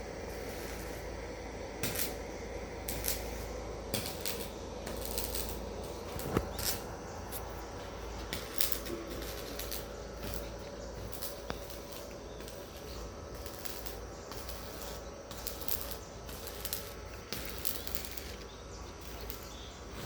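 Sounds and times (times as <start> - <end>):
arc welding crackling: 0.0 - 20.0
low hum: 0.0 - 20.0.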